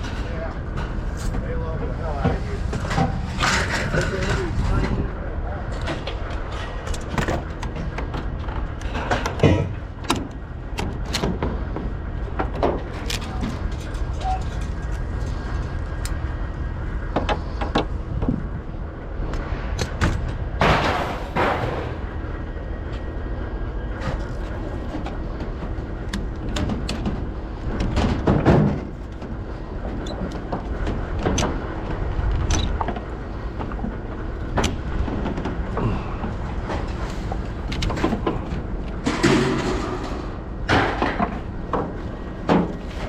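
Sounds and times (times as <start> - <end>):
clanks and rattles: 0.0 - 43.0
vehicle engine low rumble: 0.0 - 43.0.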